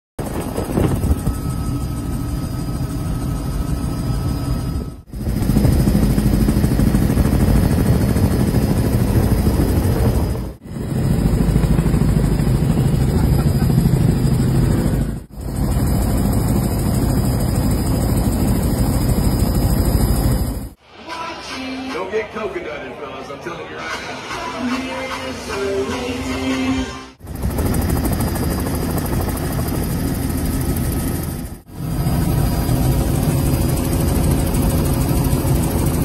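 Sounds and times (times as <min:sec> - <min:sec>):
helicopter engine and rotor drone: 0:00.2 - 0:20.8, 0:27.2 - 0:36.0.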